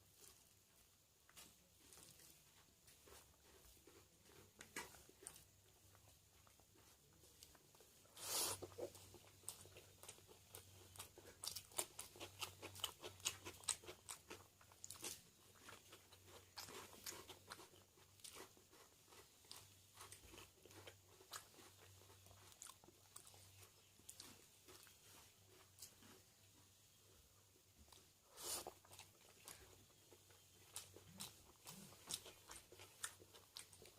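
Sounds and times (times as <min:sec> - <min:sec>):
person chewing food: 0:00.1 - 0:33.9.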